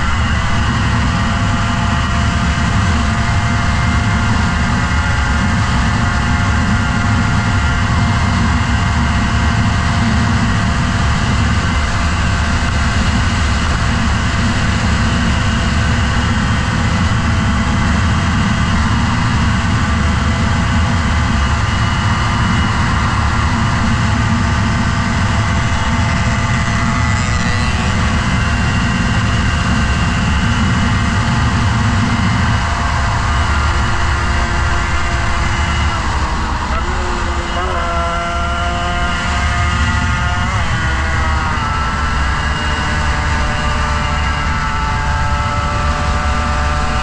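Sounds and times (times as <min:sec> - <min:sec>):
motorcycle engine at speed: 0:00.0 - 0:47.0
wind rush: 0:00.0 - 0:47.0.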